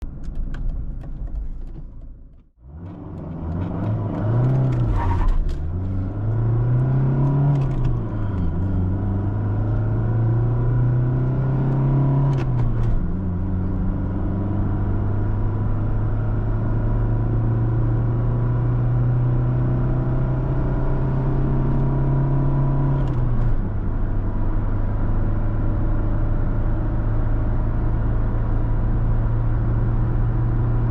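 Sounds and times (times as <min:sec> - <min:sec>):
diesel car accelerating: 0:00.1 - 0:30.9.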